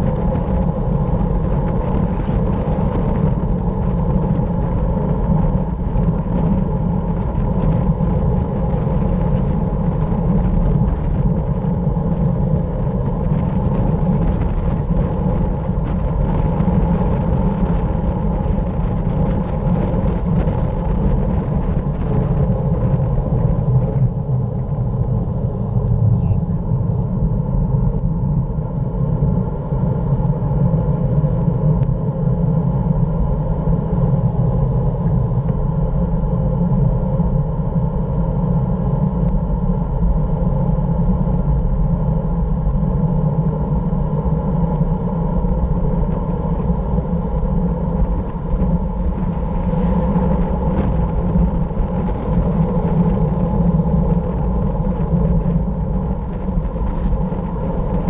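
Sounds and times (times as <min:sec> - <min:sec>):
wind roar on microphone: 0:00.0 - 0:58.0.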